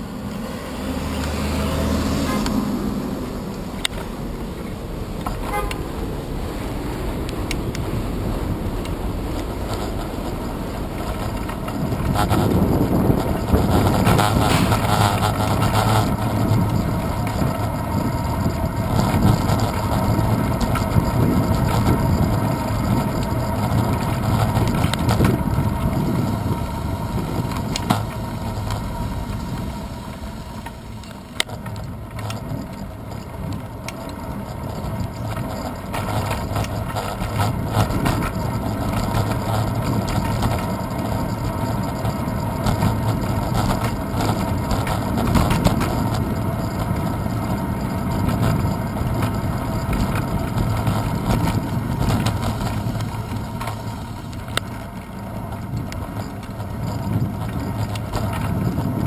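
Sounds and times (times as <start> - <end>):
bicycle road rumble: 0.0 - 59.0
wind on camera: 0.0 - 59.0.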